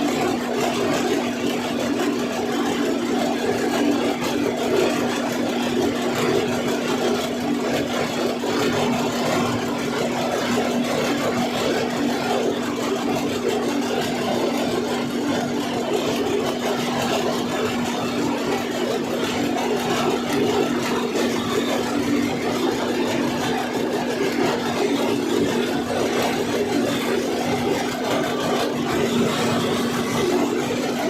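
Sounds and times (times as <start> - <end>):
diesel engine running steadily: 0.0 - 31.0.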